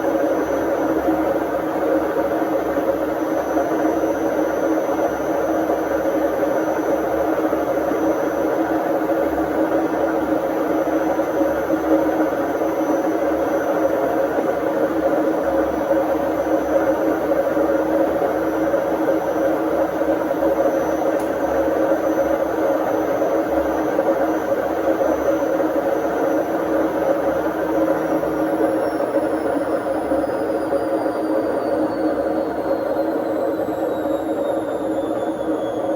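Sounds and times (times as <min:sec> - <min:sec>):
washing machine whirring hum: 0:00.0 - 0:35.9.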